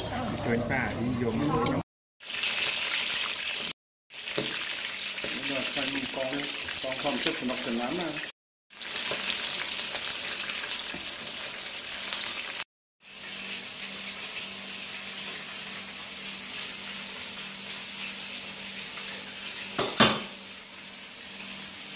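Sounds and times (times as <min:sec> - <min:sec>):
shrimp deep-frying in hot oil: 0:01.4 - 0:21.9.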